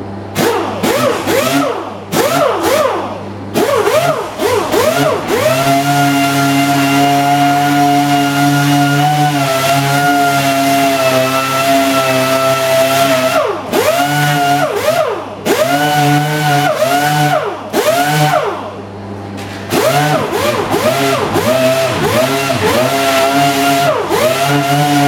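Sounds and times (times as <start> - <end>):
orbital sander whining: 3.6 - 18.4, 19.7 - 25.0.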